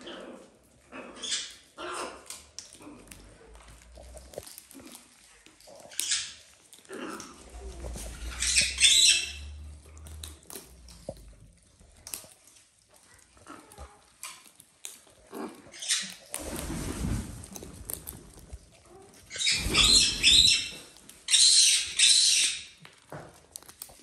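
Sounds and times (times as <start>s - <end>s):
seeds cracking: 2.2s - 24.0s.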